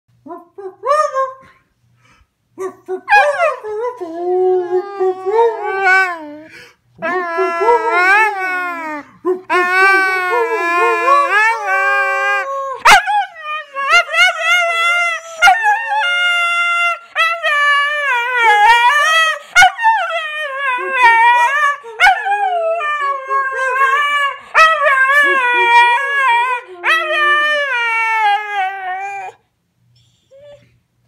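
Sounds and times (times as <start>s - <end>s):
dog howling: 4.4s - 29.4s.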